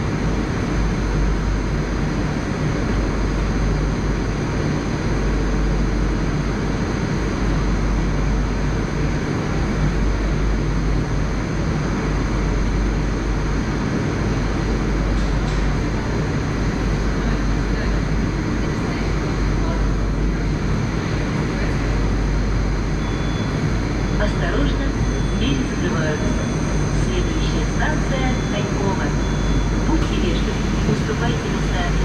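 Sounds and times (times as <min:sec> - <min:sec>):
metro train hum and hiss: 0:00.0 - 0:32.0.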